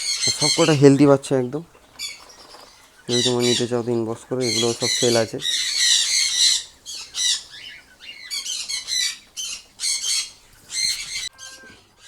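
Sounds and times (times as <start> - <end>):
quail chicks peeping: 0.0 - 12.0.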